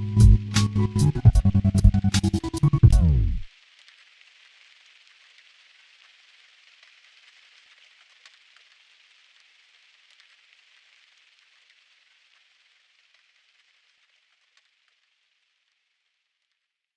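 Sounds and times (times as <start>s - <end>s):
faint steady rain: 0.0s - 16.9s
raindrop ticks: 1.2s - 16.7s.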